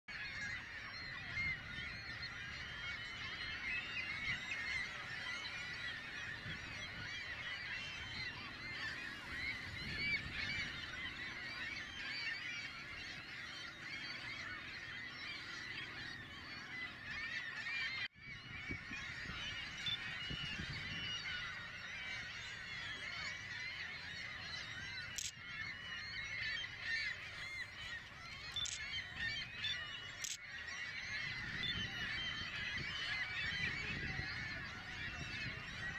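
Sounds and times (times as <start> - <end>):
gulls calling: 0.1 - 35.9.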